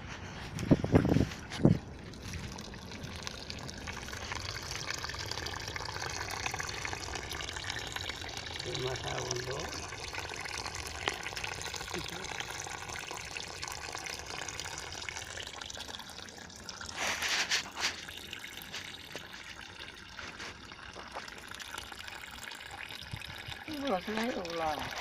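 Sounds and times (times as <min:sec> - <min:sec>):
water running and trickling: 0:00.2 - 0:25.0.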